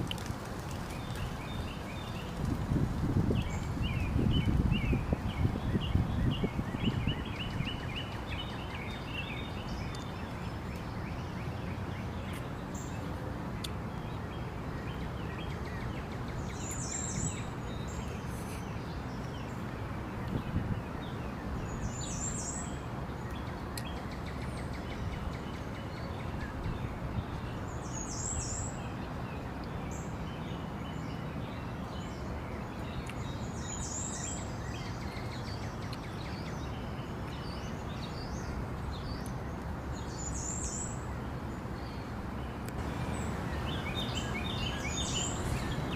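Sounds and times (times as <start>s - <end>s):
outdoor background noise: 0.0s - 45.9s
bird chirping: 3.4s - 41.1s, 41.8s - 45.9s.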